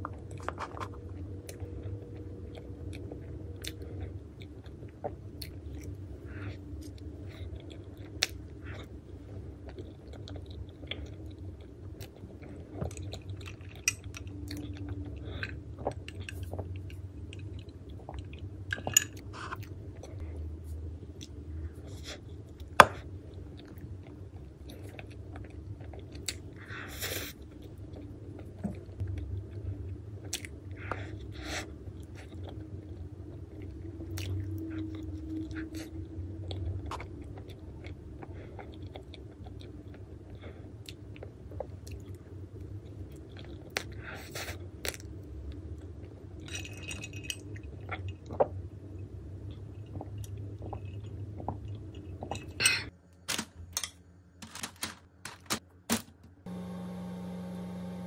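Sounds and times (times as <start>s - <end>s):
chewing soft cake: 0.0s - 46.5s, 47.4s - 52.6s.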